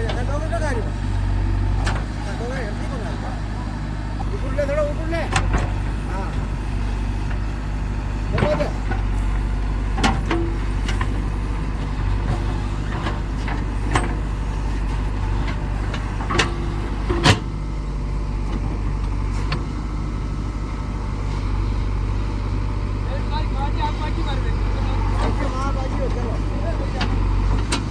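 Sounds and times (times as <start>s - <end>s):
backhoe diesel engine running: 0.0s - 27.9s.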